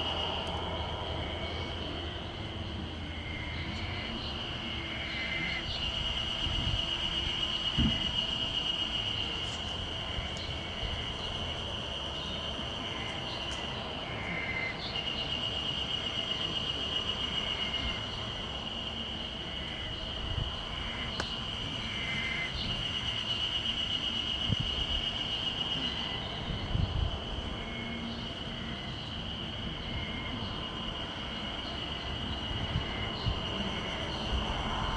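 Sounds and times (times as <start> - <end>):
cicadas droning: 0.0 - 34.9.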